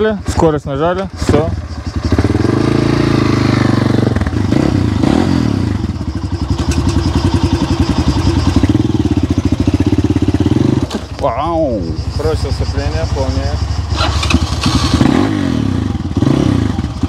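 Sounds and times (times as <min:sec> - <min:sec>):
dirt bike engine revving and idling: 0:00.0 - 0:17.0.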